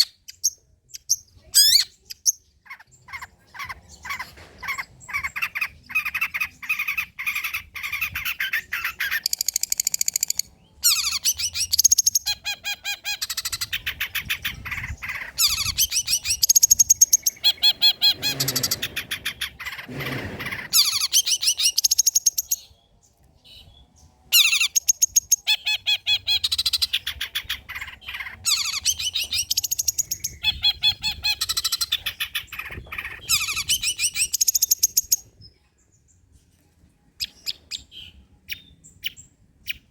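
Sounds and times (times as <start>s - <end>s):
bird singing trills and chatter: 0.0s - 39.9s.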